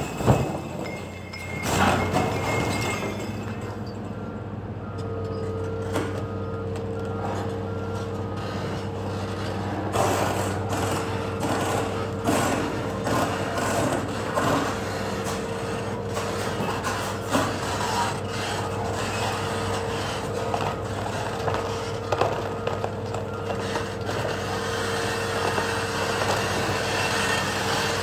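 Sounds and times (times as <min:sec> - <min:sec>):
excavator engine whining: 0:00.0 - 0:28.0.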